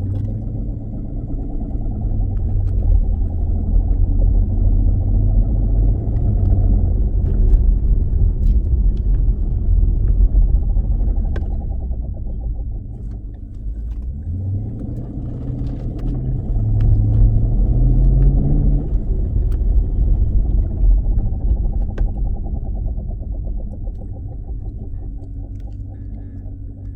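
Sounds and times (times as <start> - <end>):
drive line rumble and drone: 0.0 - 26.9.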